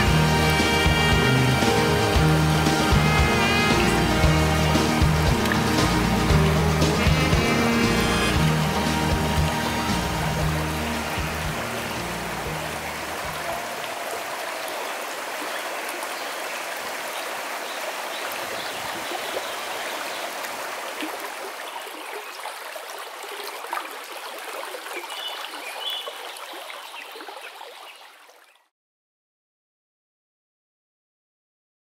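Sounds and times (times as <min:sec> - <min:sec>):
stream running over stones: 0:00.0 - 0:28.7.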